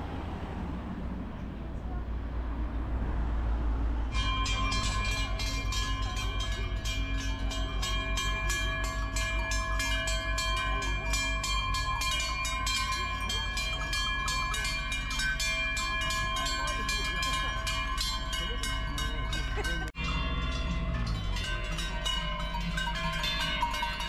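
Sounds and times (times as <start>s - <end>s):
street noise rumble: 0.0s - 24.0s
cowbells clanging: 4.2s - 24.0s.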